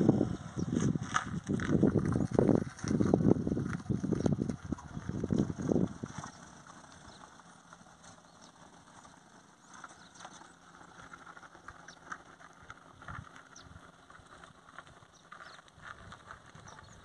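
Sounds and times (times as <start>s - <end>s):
car engine driving away: 0.0s - 17.0s.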